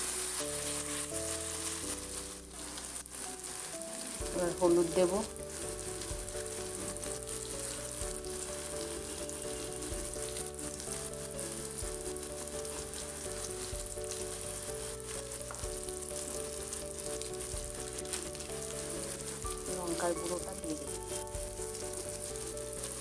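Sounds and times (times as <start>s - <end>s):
food sizzling in oil: 0.0s - 23.0s.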